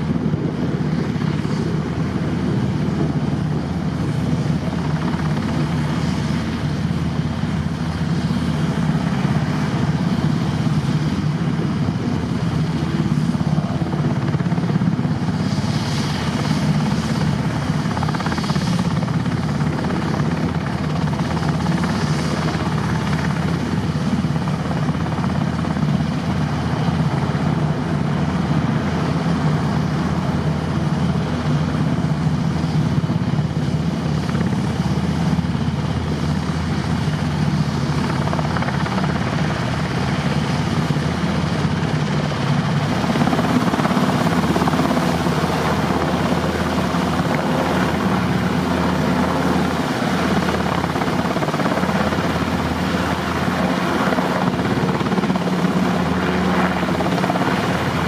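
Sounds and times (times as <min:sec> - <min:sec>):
helicopter engines running: 0:00.0 - 0:58.0
helicopter rotor beating: 0:00.0 - 0:58.0.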